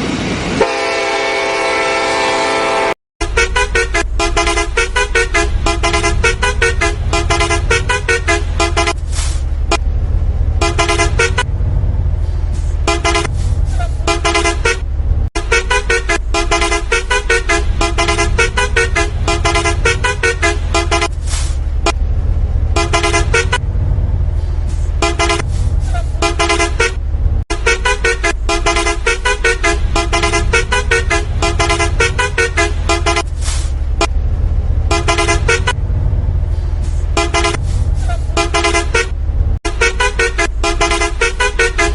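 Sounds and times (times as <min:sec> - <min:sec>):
horn toots changing pitch: 0:00.6 - 0:11.6, 0:12.3 - 0:22.0, 0:22.6 - 0:23.7, 0:24.4 - 0:34.2, 0:34.8 - 0:35.8, 0:36.6 - 0:41.9
low engine drone: 0:03.2 - 0:41.9.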